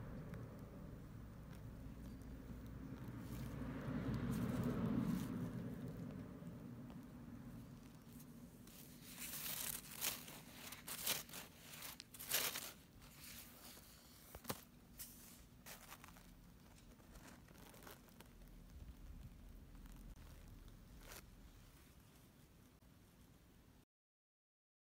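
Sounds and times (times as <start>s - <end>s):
close rustling and crinkling: 0.3s - 22.8s.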